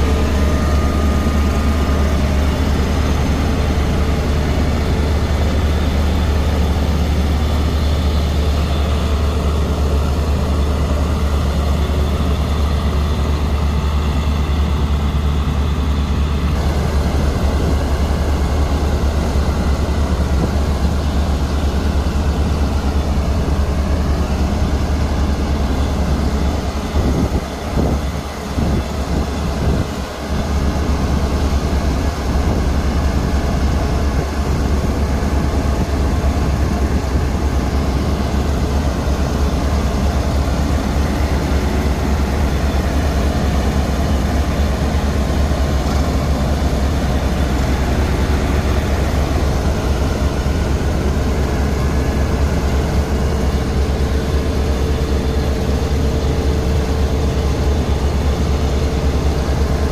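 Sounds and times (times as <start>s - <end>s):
road roller diesel engines droning: 0.0s - 59.9s.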